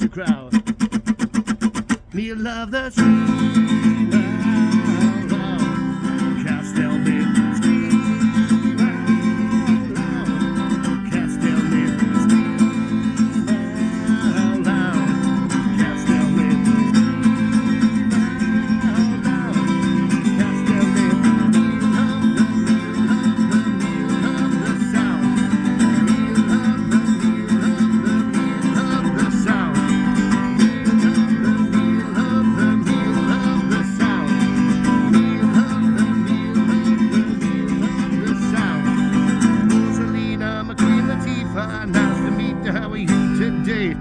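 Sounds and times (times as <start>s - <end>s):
instrumental music with strummed guitar: 0.0s - 44.0s.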